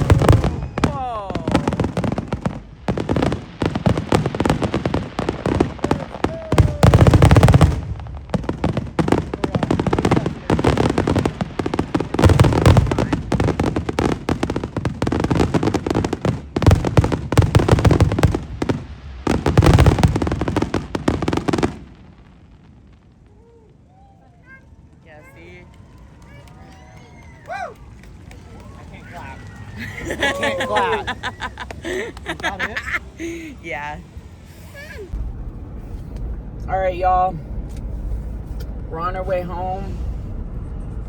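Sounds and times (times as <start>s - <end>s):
heavy fireworks booms: 0.0s - 23.9s, 24.8s - 41.0s
fireworks bangs and crackles: 0.0s - 41.0s.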